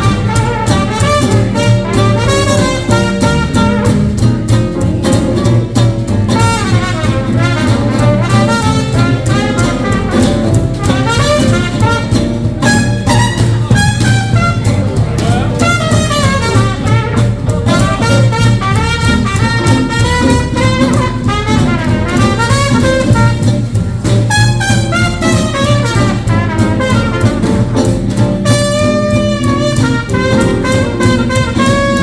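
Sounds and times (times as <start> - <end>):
horn melody: 0.0 - 32.0
swing jazz band playing: 0.0 - 32.0.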